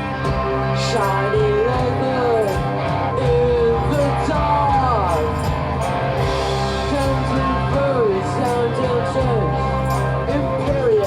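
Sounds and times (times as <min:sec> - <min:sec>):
rock band playing slow song: 0:00.0 - 0:11.0.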